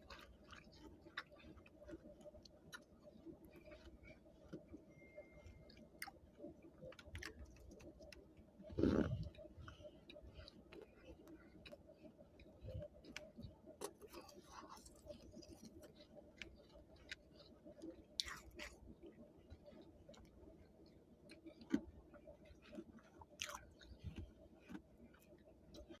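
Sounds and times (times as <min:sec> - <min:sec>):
chewing crunches: 0:00.0 - 0:26.0
faint steady hum: 0:00.0 - 0:26.0.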